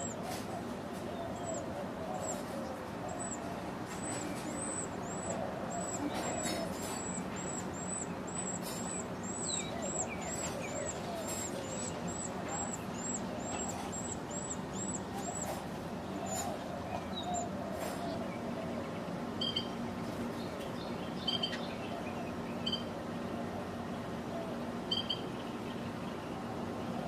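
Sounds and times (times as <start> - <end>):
small birds chirping: 0.0 - 22.9
steady low hum: 0.0 - 27.0.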